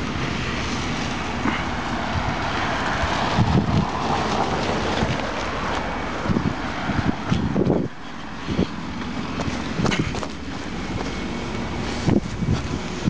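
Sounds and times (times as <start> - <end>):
wind buffeting microphone: 1.7 - 13.0.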